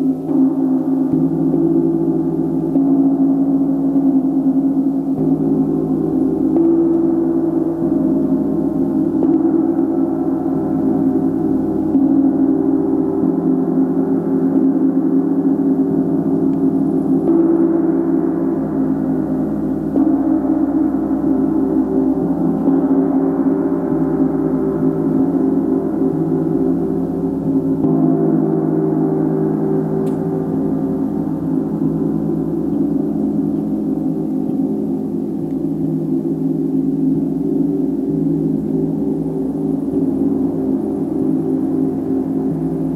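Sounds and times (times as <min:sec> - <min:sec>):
layered ringing drone: 0:00.0 - 0:42.9.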